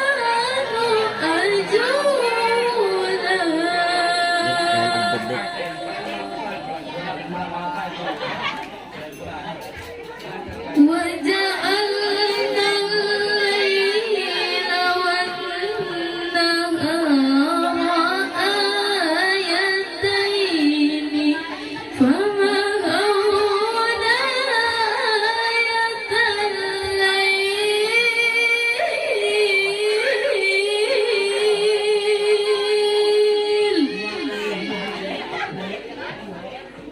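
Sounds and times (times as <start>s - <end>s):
woman reciting melodically: 0.0s - 7.2s, 10.6s - 35.6s.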